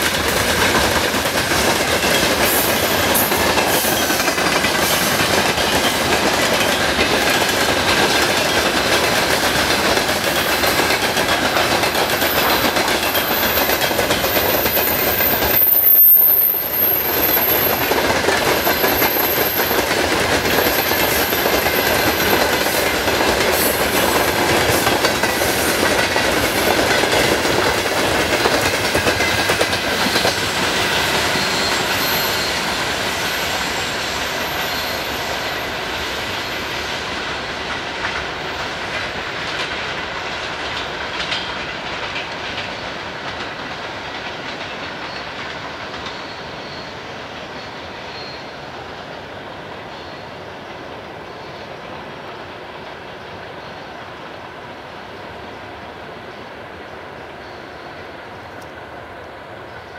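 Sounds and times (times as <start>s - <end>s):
train wheels clacking over rail joints: 0.0s - 49.2s.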